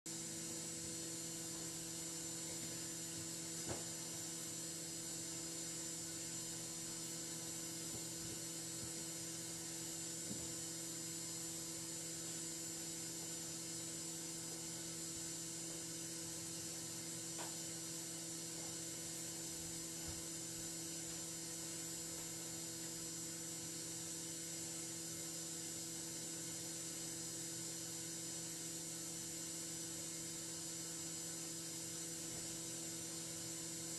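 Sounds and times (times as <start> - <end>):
electrical hum and hiss: 0.1 - 33.9.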